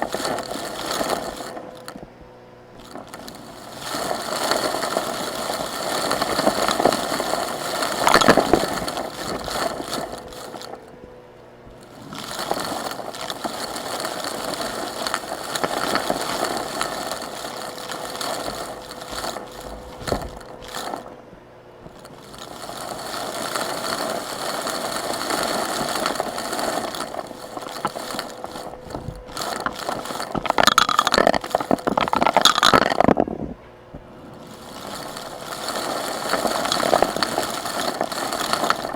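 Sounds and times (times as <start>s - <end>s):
rocks rattling through hose: 0.0s - 38.9s
vacuum cleaner motor whine: 0.0s - 38.9s.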